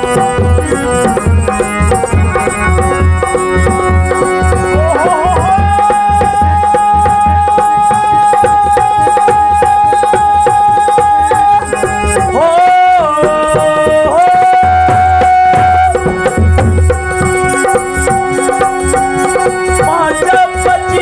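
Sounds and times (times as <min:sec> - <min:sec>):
hand drum beat: 0:00.0 - 0:21.0
harmonium: 0:00.0 - 0:21.0.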